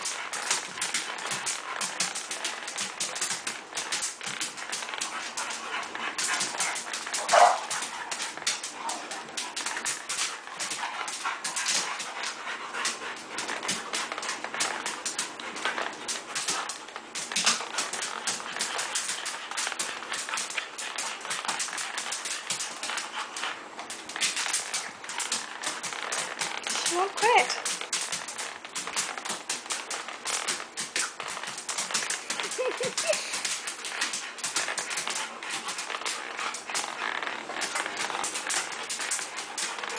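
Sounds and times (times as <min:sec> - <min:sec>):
dog's claws scrabbling on tile: 0:00.0 - 0:39.9.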